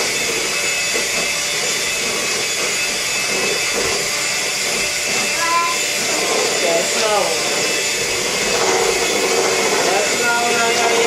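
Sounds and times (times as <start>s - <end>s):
electric mixer whirring in batter: 0.0s - 11.0s.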